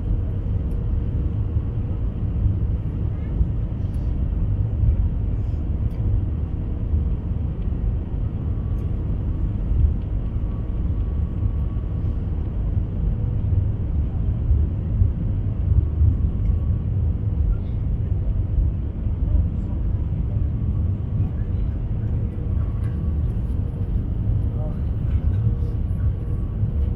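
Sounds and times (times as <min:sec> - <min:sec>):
airplane cabin engine rumble: 0:00.0 - 0:26.9.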